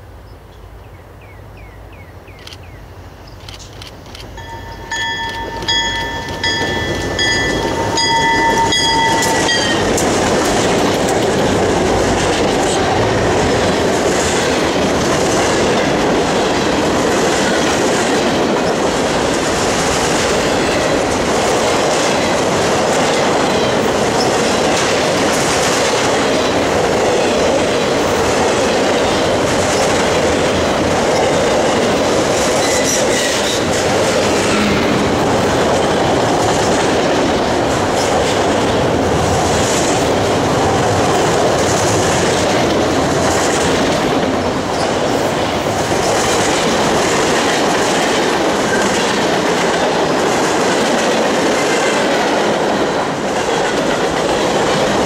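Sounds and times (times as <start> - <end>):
train wheels rumbling on rails: 2.4 - 55.0.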